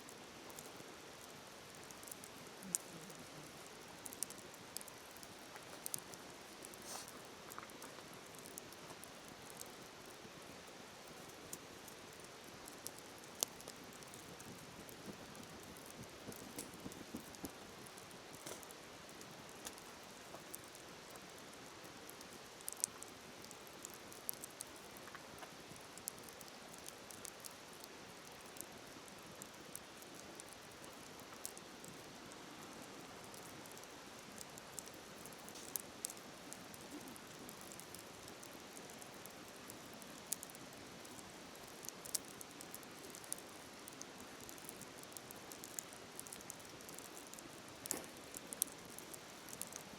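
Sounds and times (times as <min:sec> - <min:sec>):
wood fire crackling: 0:00.1 - 0:49.9.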